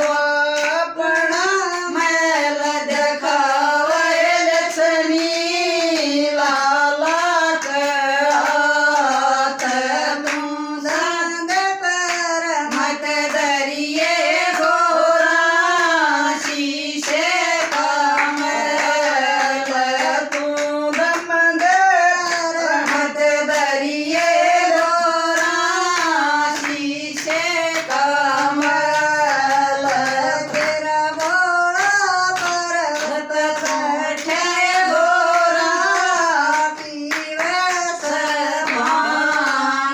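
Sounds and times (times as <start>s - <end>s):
hand claps: 0.0s - 39.9s
woman singing devotional song: 0.0s - 39.9s.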